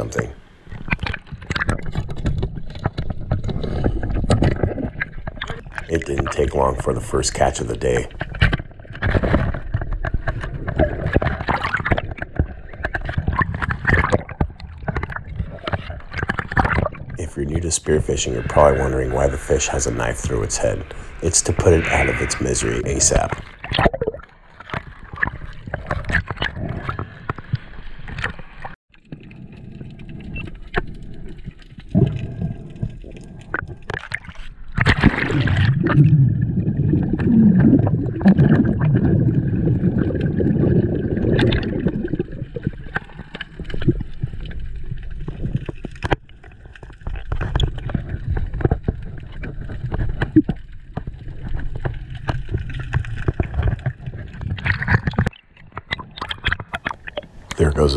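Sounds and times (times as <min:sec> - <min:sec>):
underwater sloshing and gurgling: 0:00.2 - 0:57.6.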